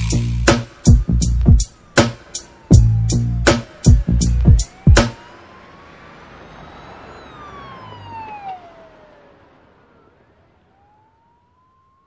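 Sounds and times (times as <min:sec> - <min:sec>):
siren wail falling and rising: 0:00.0 - 0:12.0.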